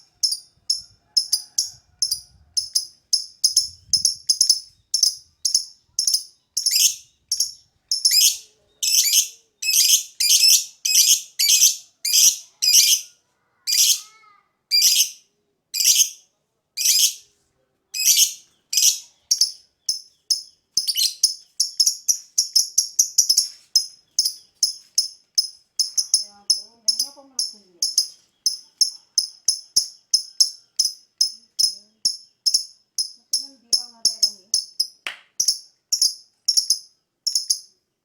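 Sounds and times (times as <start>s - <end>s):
lovebird shrill chirps: 0.2s - 13.1s, 14.7s - 15.2s, 15.8s - 16.2s, 18.0s - 37.7s.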